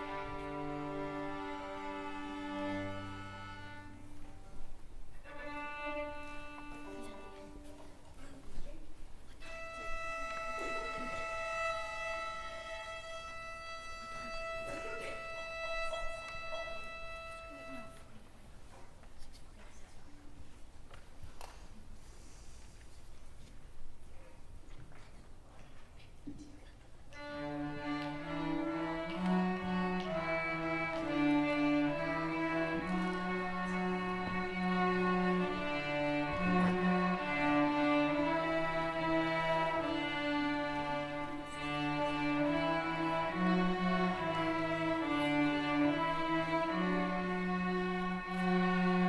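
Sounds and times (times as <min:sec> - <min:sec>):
string ensemble playing slow tune: 0:00.0 - 0:08.2, 0:08.8 - 0:18.3, 0:27.1 - 0:49.0.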